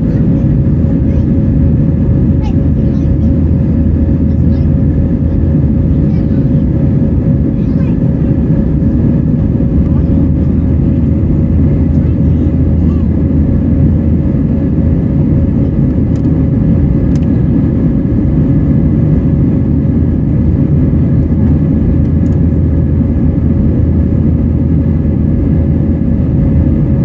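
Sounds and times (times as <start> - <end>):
faint whine: 0.0 - 25.2
airplane cabin roar: 0.0 - 27.0
low hum: 0.0 - 27.0.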